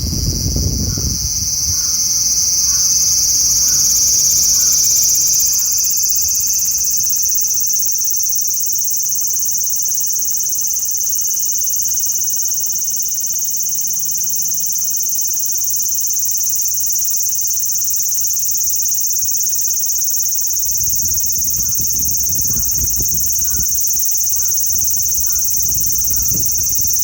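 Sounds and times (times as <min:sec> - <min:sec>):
cicada buzzing: 0:00.0 - 0:27.0.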